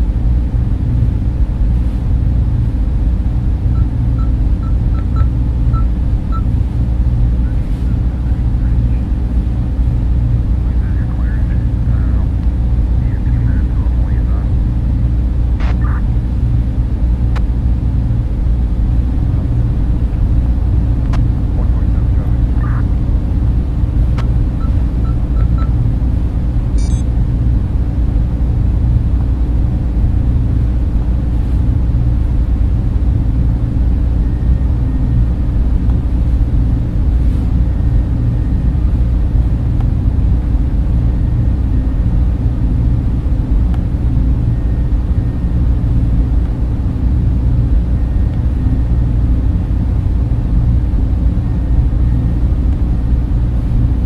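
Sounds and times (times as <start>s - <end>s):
server cooling fans whirring: 0.0s - 54.0s.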